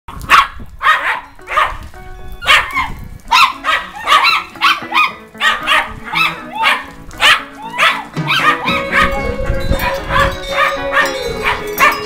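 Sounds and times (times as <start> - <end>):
small dog barking: 0.3 - 1.8, 2.4 - 9.2, 9.8 - 12.0.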